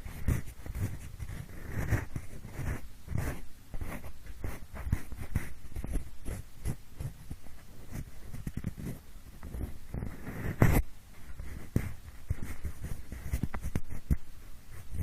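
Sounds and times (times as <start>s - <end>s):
pencil tip scratching: 0.0s - 10.8s, 11.4s - 15.0s.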